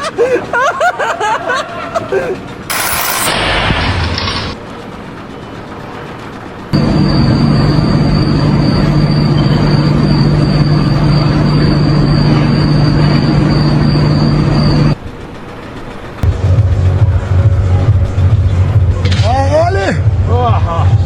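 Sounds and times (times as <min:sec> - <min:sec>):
machine humming with high whine: 0:02.1 - 0:19.2.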